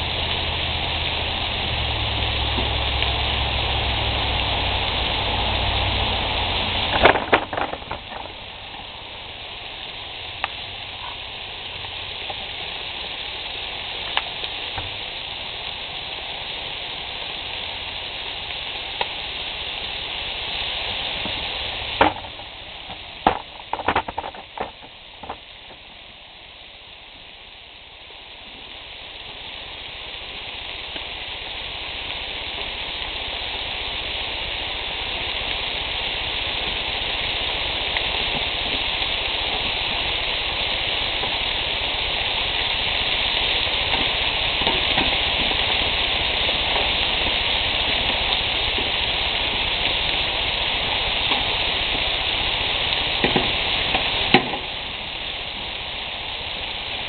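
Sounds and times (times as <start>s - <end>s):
meat sizzling on grill: 0.0s - 57.0s.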